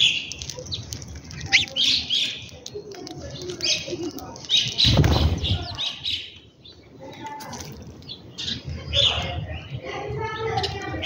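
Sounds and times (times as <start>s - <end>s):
sparrows chirping: 0.0s - 11.0s.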